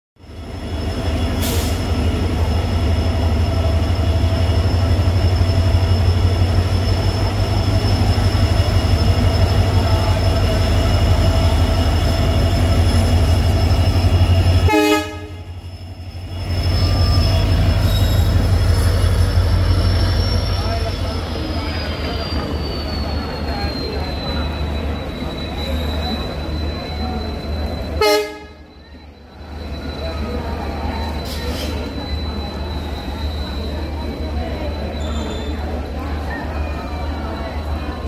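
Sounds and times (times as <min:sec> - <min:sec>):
diesel locomotive engine rumbling: 0:00.2 - 0:38.0.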